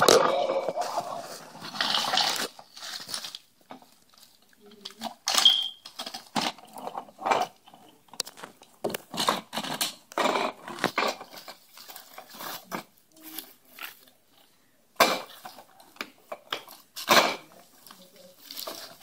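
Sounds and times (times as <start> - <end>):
paper and plastic rustling and crunching: 0.0 - 19.0.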